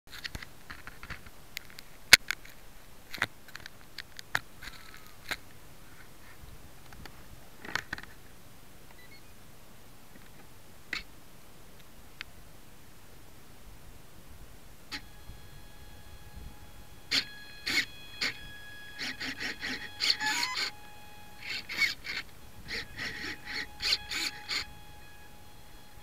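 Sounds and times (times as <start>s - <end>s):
faint steady hiss: 0.1s - 26.0s.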